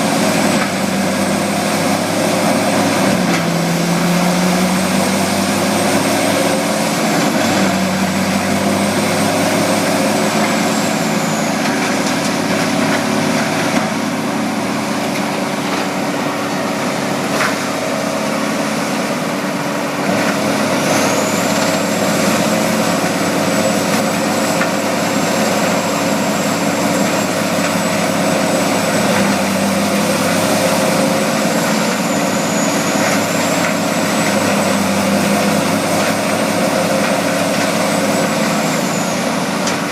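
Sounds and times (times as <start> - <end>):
diesel engine running: 0.0 - 39.9
high-pitched whine: 4.0 - 39.9.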